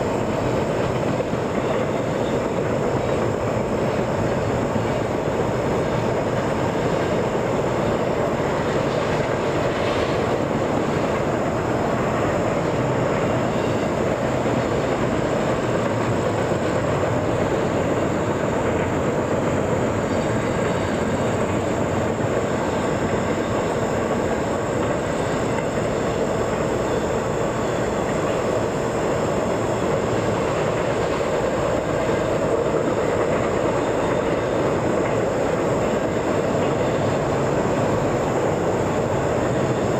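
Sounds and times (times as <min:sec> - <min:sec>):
train cars rolling on track: 0:00.0 - 0:39.9.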